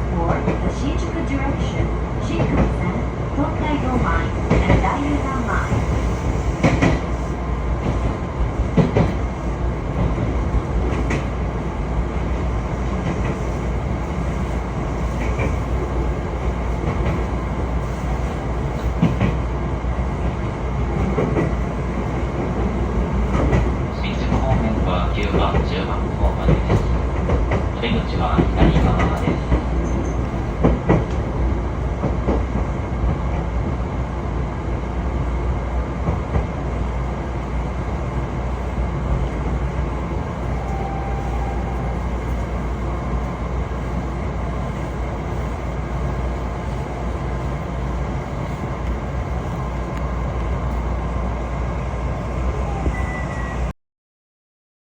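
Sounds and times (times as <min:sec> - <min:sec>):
train wheels rumbling: 0:00.0 - 0:53.5.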